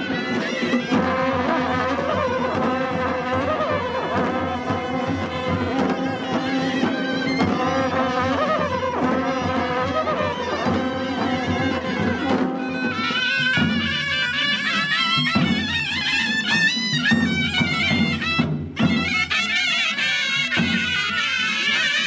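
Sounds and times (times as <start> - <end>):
drums: 0.0 - 22.0
reed pipes playing melody: 0.0 - 22.0.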